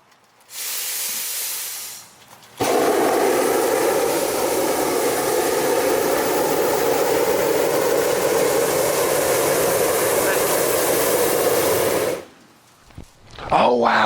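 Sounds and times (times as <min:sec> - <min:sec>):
loud rush of air: 0:00.5 - 0:12.4.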